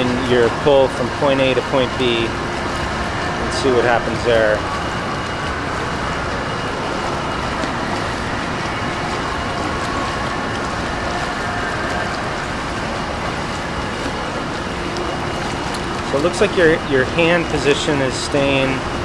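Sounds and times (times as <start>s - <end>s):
swimmer churning pool water: 0.0s - 19.0s.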